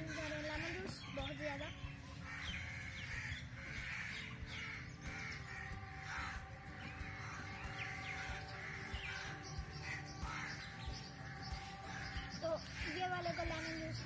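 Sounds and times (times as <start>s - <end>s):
crows cawing: 0.0s - 14.0s.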